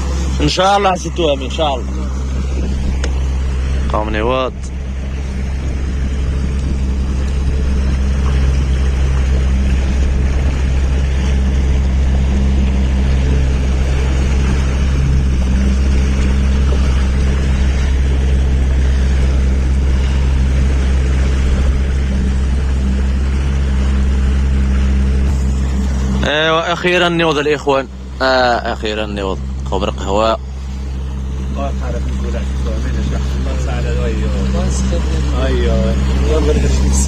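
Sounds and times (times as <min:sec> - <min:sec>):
motorboat engine humming: 0:00.0 - 0:37.0
wind and water rushing: 0:00.0 - 0:37.0.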